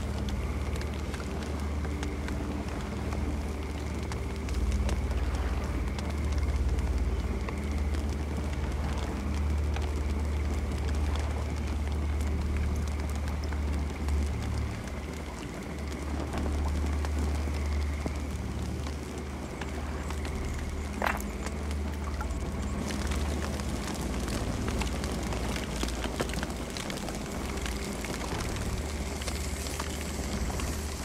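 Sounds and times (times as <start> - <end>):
campfire wood crackling: 0.0 - 31.0
insect drone: 0.0 - 31.0
low fire rumble: 0.0 - 31.0.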